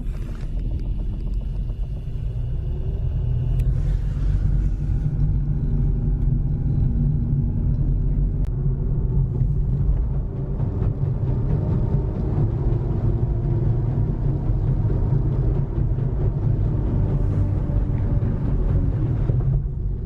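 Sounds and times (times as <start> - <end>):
car interior road and engine rumble: 0.0 - 20.0.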